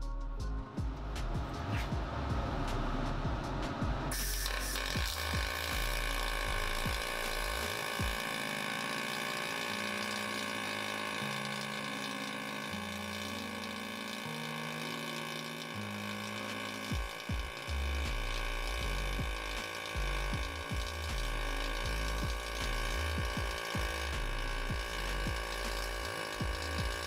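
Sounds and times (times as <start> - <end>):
welding arc hissing buzz: 1.2 - 27.0.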